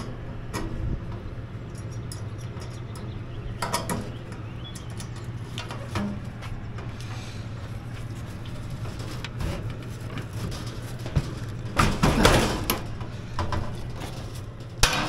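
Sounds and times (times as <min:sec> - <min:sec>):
steady low hum: 0:00.0 - 0:15.0
metal scraping and clatter: 0:01.7 - 0:15.0.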